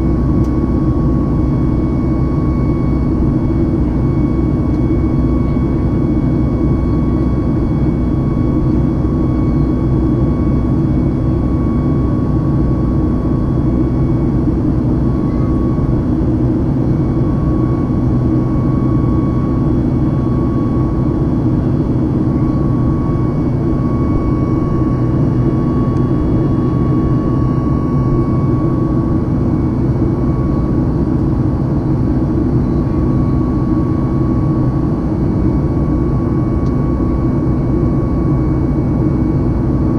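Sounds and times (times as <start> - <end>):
airplane cabin engine drone: 0.0 - 39.9
faint engine whine: 0.0 - 39.9.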